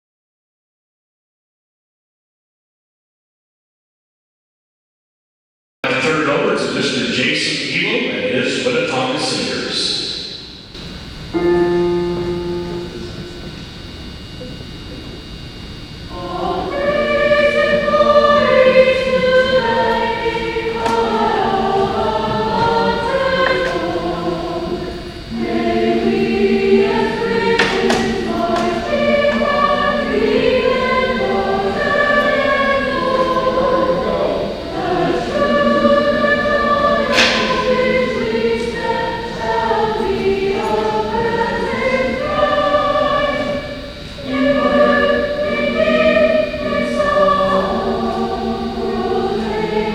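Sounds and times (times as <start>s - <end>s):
choir singing long notes: 5.9s - 49.9s.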